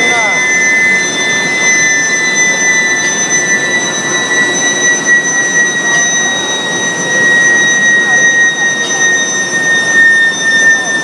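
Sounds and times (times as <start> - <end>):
high-pitched heater whine: 0.0 - 11.0.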